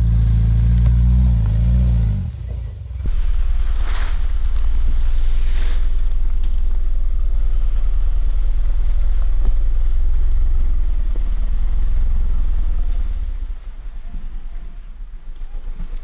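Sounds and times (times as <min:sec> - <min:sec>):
car engine pulling under load: 0:00.0 - 0:16.0.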